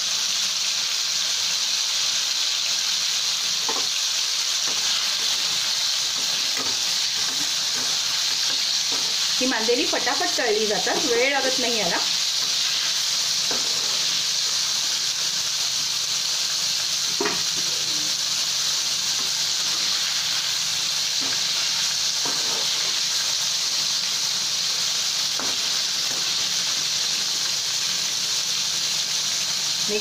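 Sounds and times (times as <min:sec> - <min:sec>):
fish deep-frying in oil: 0:00.0 - 0:30.0.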